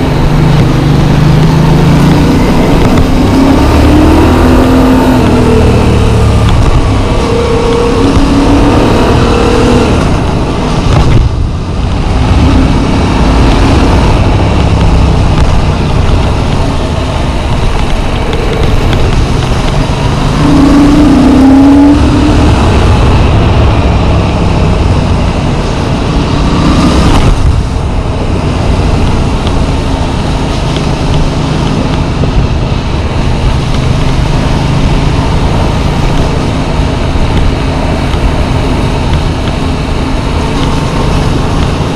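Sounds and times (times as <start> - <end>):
motorcycle engine running: 0.0 - 41.9
wind rush: 0.0 - 41.9.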